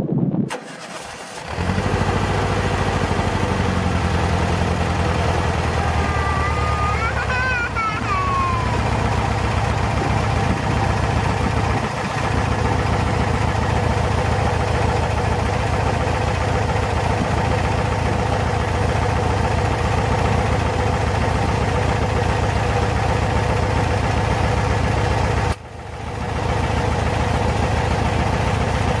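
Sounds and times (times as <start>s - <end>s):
van engine idling: 0.6s - 29.0s.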